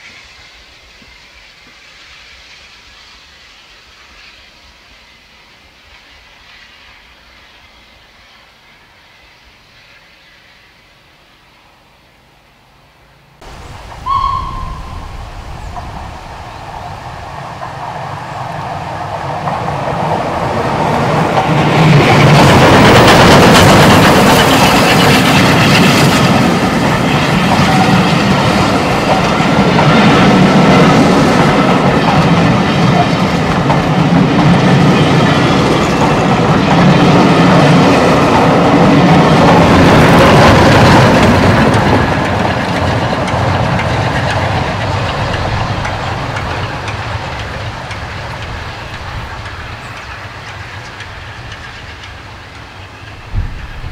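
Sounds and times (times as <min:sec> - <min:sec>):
steam train passing: 0:00.0 - 0:53.9.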